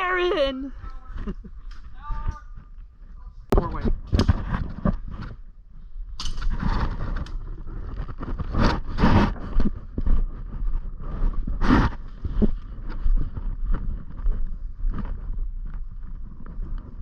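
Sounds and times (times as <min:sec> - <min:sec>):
clothing and gear rustling: 0:00.7 - 0:17.0.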